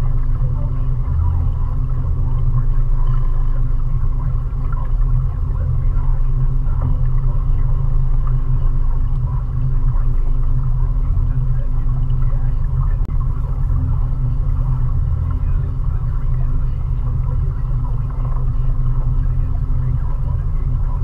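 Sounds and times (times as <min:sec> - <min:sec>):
outboard motor drone: 0:00.0 - 0:21.0.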